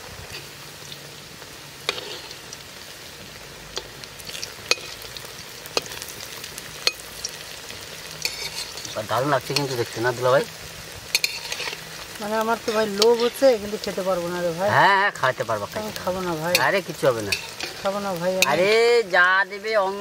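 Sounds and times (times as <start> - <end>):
food sizzling in deep oil: 0.0 - 20.0.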